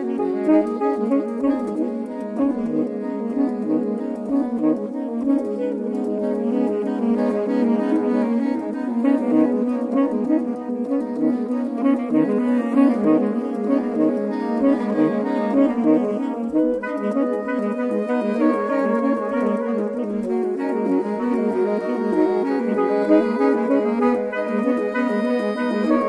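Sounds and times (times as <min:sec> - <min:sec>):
saxophone quartet playing: 0:00.0 - 0:26.0.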